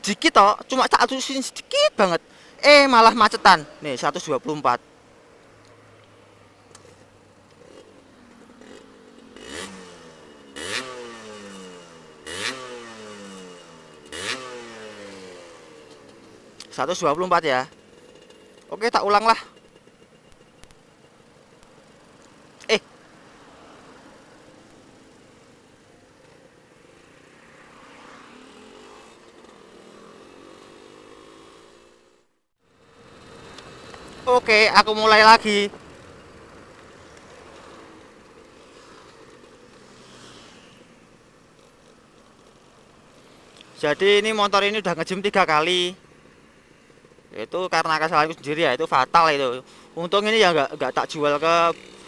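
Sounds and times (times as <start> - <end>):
motorcycle engine revving: 5.5 - 52.0.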